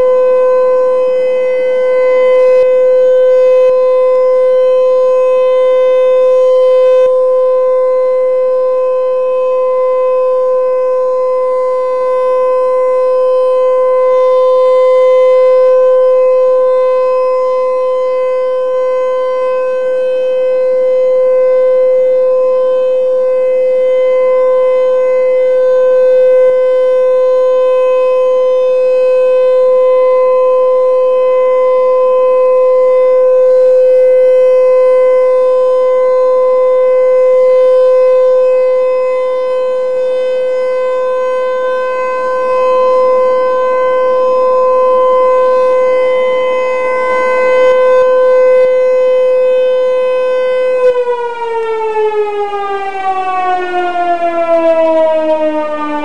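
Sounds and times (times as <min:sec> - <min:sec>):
warning siren: 0:00.0 - 0:56.0.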